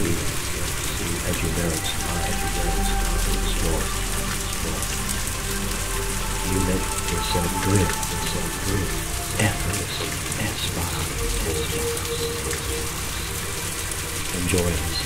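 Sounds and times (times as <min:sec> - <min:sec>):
low drone tones: 0:00.0 - 0:15.0
rain-like hiss: 0:00.0 - 0:15.0.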